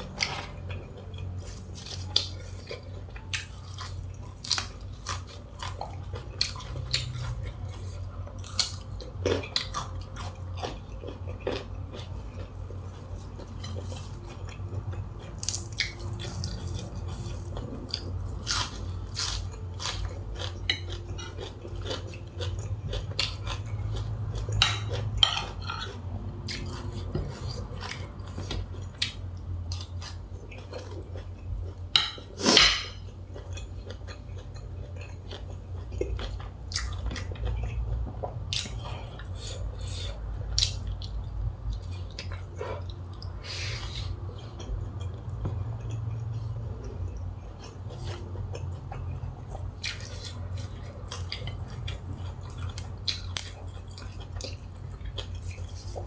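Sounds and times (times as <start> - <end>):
chewing: 0.0 - 56.0
steady low hum: 0.0 - 56.0.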